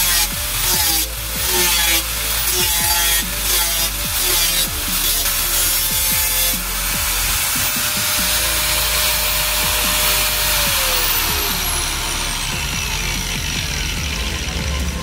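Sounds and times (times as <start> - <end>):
angle grinder cutting sheet steel: 0.0 - 15.0
angle grinder whine spinning down: 0.0 - 15.0.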